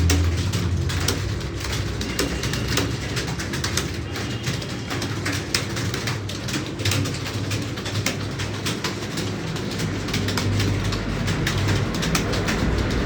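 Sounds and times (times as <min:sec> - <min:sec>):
keyboard typing: 0:00.0 - 0:13.0.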